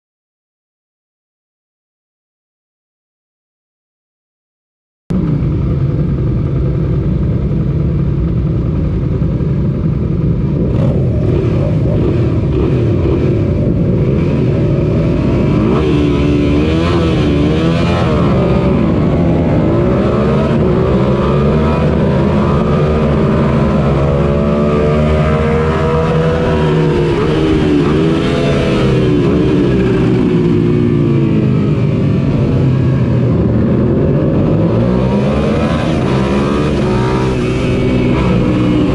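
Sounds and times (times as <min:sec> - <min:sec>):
motorcycle engine revving: 0:05.1 - 0:38.9.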